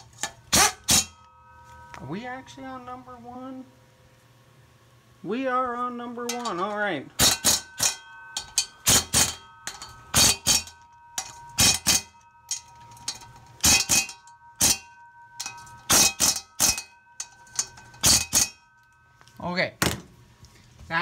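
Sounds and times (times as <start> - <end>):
ringing metal tone: 0.0 - 20.7.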